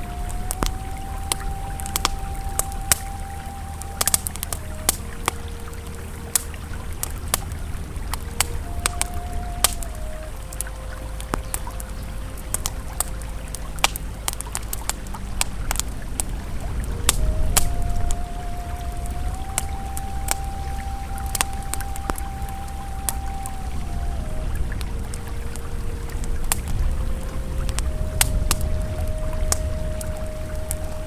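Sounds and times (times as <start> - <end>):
campfire crackling and popping: 0.0 - 31.0
river flowing: 0.0 - 31.0
soft ambient music: 0.0 - 31.0.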